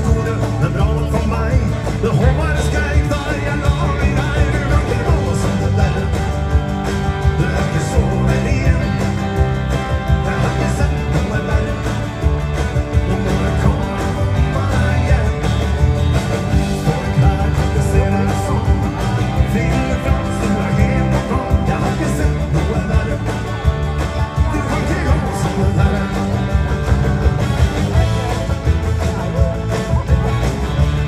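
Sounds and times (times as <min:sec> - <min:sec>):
live rock and roll band: 0:00.0 - 0:31.0.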